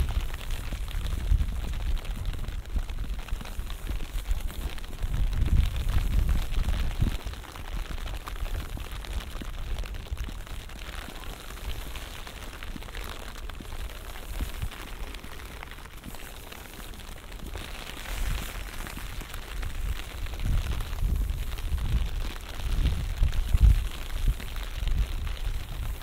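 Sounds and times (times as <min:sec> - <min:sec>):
light rain hissing: 0:00.0 - 0:26.0.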